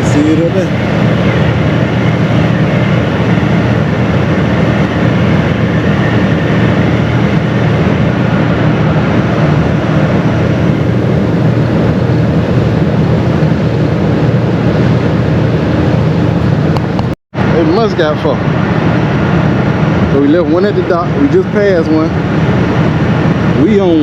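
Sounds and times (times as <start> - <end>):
ferry engine and water rumble: 0.0 - 24.0.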